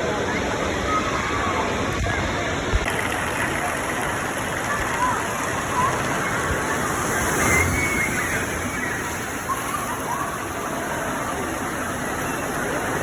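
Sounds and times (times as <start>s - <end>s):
distant voices and shouts: 0.0s - 13.0s
water rushing: 0.0s - 13.0s.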